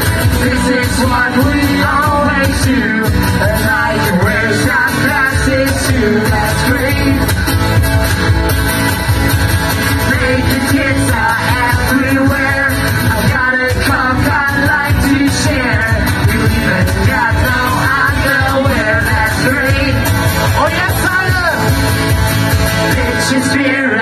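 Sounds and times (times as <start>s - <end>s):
person singing: 0.0s - 7.4s, 9.8s - 21.7s, 22.8s - 24.0s
steady drum beat: 0.0s - 23.4s
rock guitar: 0.0s - 24.0s.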